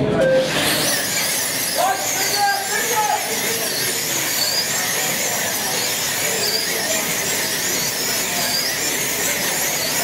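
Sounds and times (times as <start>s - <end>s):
slot car motors whining: 0.0s - 10.0s.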